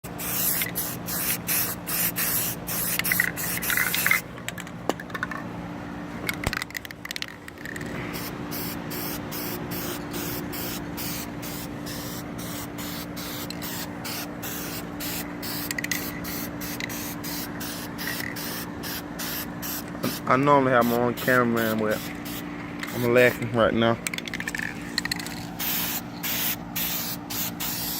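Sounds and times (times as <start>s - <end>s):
spray paint hissing bursts: 0.0s - 4.2s, 8.1s - 23.4s, 24.6s - 27.9s
steady low hum: 0.0s - 27.9s.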